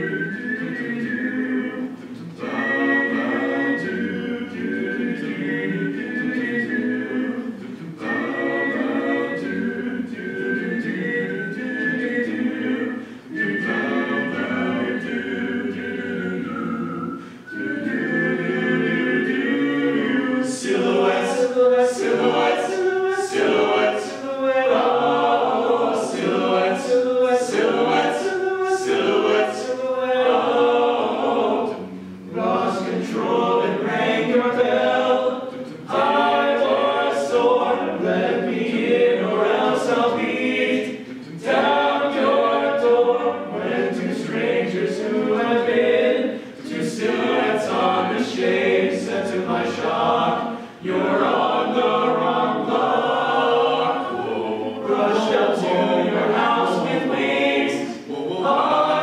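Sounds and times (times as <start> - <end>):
male group singing in harmony: 0.0 - 59.0.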